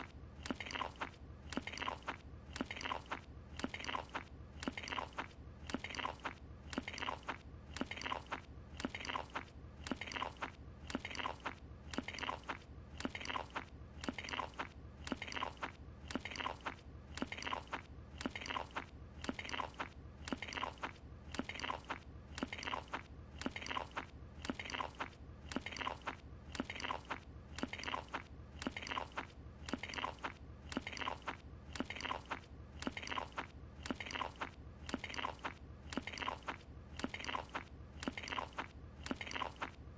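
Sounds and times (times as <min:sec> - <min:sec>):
open-mouthed chewing: 0:00.0 - 0:39.9.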